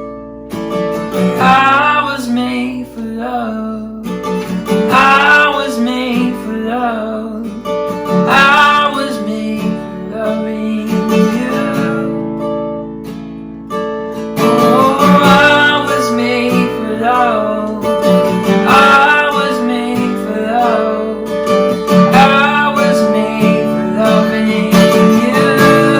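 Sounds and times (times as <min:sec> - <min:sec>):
strummed acoustic guitar: 0:00.0 - 0:25.9
person singing: 0:01.3 - 0:12.3, 0:14.4 - 0:25.9.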